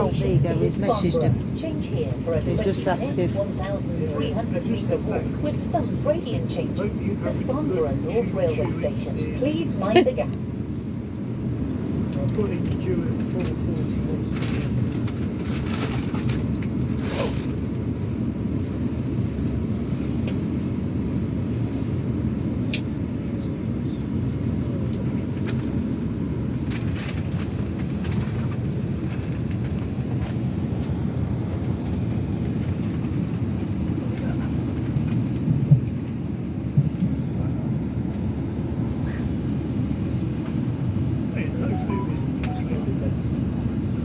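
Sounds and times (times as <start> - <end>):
train interior rumble: 0.0 - 44.0.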